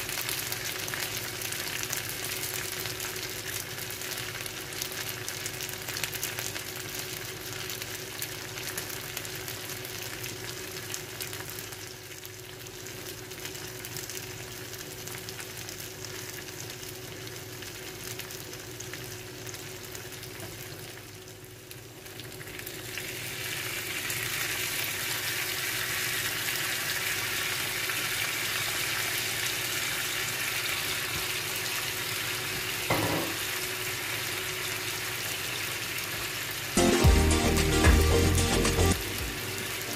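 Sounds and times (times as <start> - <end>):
meat sizzling on hot plate: 0.0 - 36.8.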